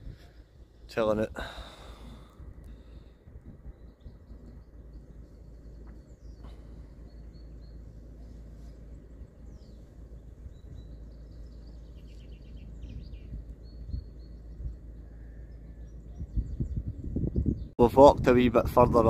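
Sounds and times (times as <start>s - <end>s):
low rumble: 0.0s - 19.0s
small birds chirping and singing: 0.0s - 19.0s.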